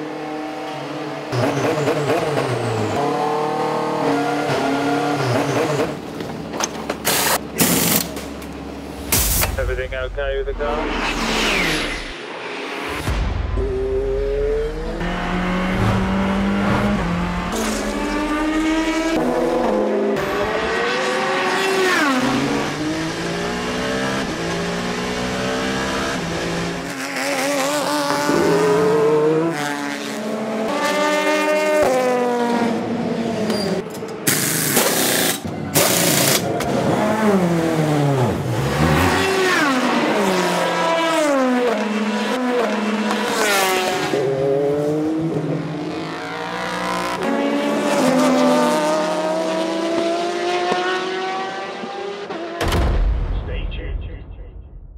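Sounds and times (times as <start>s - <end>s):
race car engines revving past: 0.0s - 6.2s, 9.6s - 34.4s, 35.0s - 52.6s.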